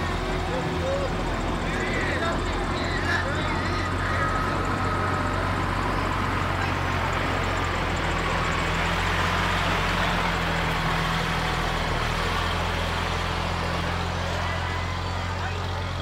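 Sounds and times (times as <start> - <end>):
large vehicle engine idling: 0.0 - 16.0.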